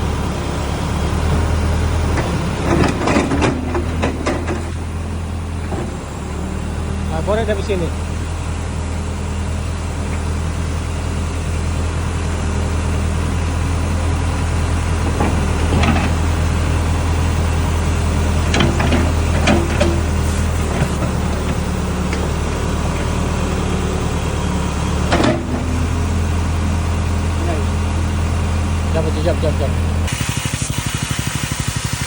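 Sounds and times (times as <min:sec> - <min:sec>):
large engine idling: 0:00.0 - 0:32.0.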